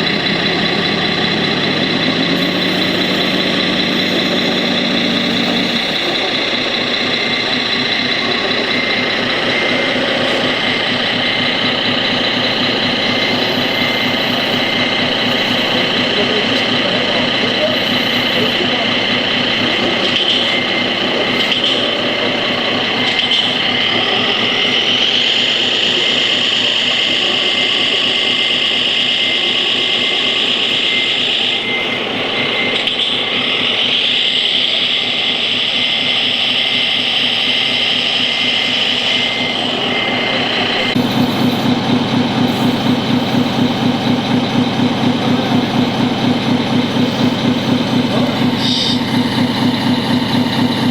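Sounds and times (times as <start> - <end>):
model truck motor whine: 0.0 - 50.9
pulsing engine-like chug: 0.0 - 50.9.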